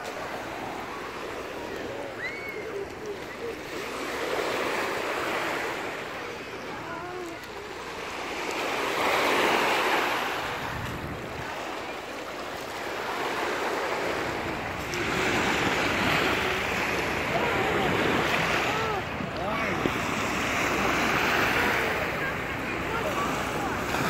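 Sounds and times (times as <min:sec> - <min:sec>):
waves washing up pebble shore: 0:00.0 - 0:24.0.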